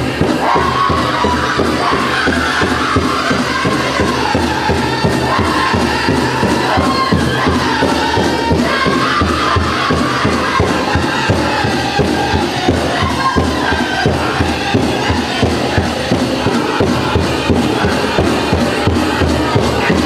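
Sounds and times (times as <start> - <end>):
big drum steady beat: 0.0 - 20.0
group singing in high voices: 0.0 - 20.0.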